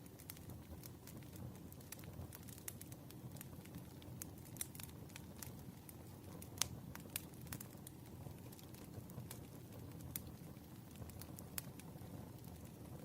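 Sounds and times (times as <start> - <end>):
low rumble of burning logs: 0.0 - 13.0
wood fire crackling: 0.0 - 13.0.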